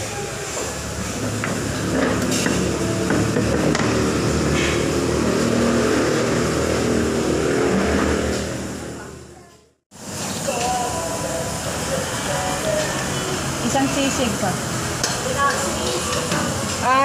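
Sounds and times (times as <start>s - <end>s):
vehicle engine rumble: 0.4s - 16.8s.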